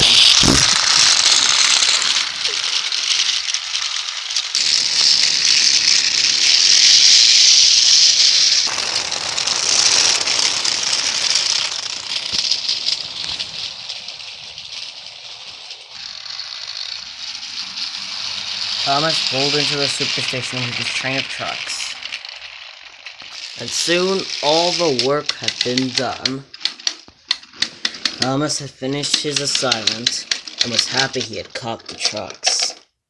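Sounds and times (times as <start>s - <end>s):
toy train rattling on plastic track: 0.0s - 33.0s.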